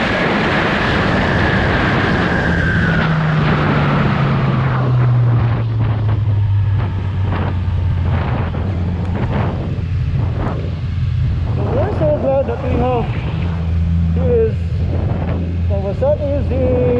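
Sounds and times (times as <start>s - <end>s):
motorcycle engine revs falling: 0.0s - 15.8s
wind rushing over microphone: 0.0s - 16.9s.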